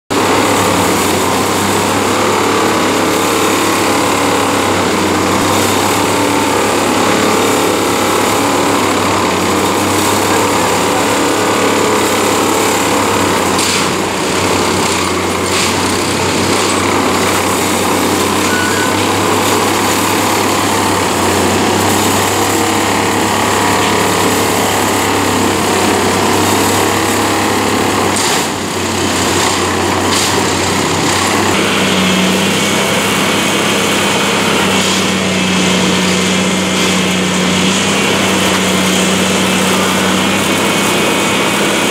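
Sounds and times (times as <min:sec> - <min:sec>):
machine engine and hydraulics: 0:00.1 - 0:41.9.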